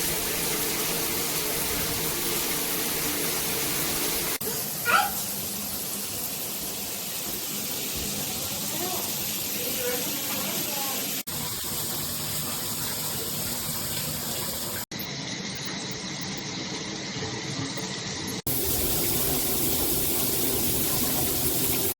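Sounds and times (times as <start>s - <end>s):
shower water spraying: 0.0s - 14.9s, 18.4s - 21.9s.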